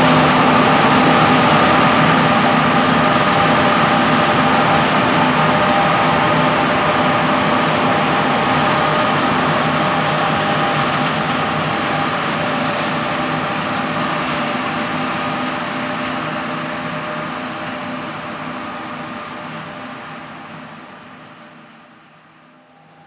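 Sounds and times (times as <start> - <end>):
combine harvester engines droning: 0.0 - 20.5.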